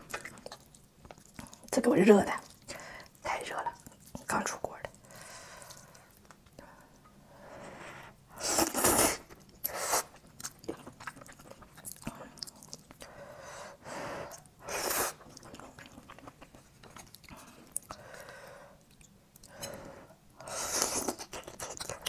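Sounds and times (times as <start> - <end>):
quiet chewing: 0.0 - 7.2, 8.6 - 13.2, 14.3 - 22.0.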